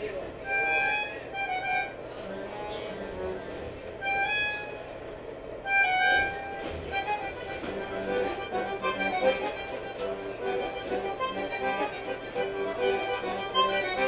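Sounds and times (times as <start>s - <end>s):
bandoneon chords: 0.4s - 5.0s, 5.6s - 14.0s
train carriage rumble: 1.9s - 14.0s.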